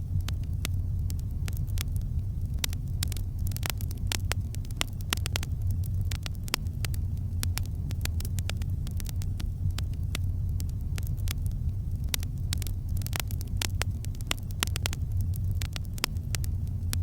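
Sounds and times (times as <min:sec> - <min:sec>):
campfire crackling: 0:00.0 - 0:17.0
low hum: 0:00.0 - 0:17.0.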